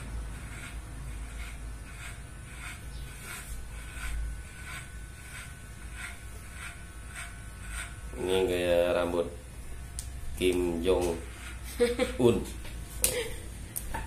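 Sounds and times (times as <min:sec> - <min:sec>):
hair cutting: 0:00.0 - 0:14.0
low steady hum: 0:00.0 - 0:14.0.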